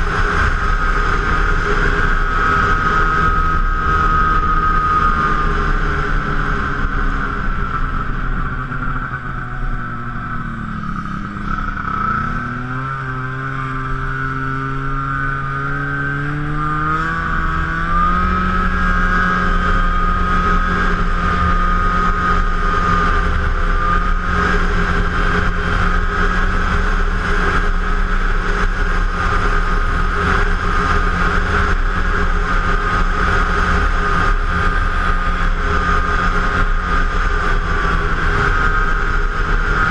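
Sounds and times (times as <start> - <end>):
high steady whine: 0.0 - 39.9
snowmobile engine running: 0.0 - 39.9.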